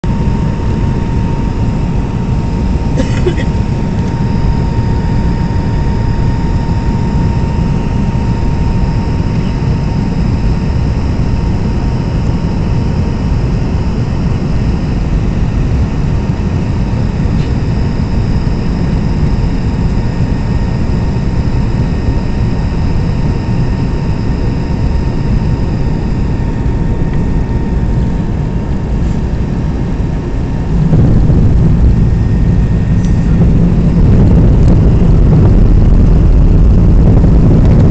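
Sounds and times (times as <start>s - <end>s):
airliner cabin rumble: 0.0s - 37.9s
faint steady whine: 0.0s - 37.9s.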